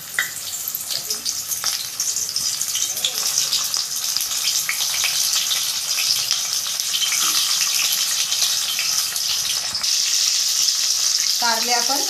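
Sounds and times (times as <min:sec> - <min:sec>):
gourds sizzling in hot oil: 0:00.0 - 0:12.0.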